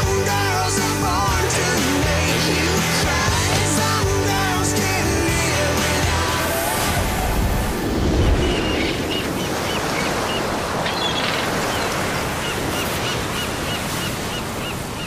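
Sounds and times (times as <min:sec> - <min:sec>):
ocean surf washing on beach: 0:01.6 - 0:15.0.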